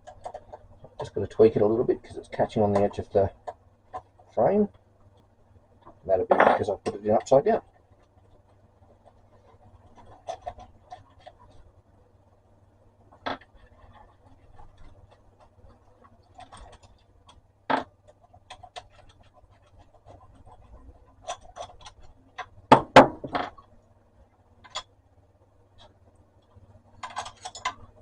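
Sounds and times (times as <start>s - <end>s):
small metal clicks and knocks: 0.0s - 1.1s, 2.7s - 11.7s, 13.1s - 23.7s, 24.6s - 25.0s, 25.7s - 28.0s.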